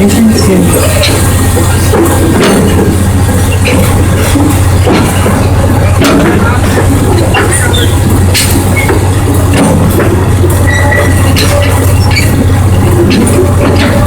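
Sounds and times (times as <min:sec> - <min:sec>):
train rolling on the track: 0:00.0 - 0:14.0
wheels clicking and squeaking on rails: 0:00.0 - 0:14.0.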